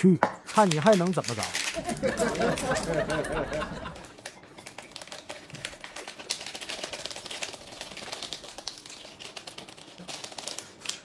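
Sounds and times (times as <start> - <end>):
plastic sachet crinkling and tearing: 0.5 - 3.1, 3.9 - 11.0.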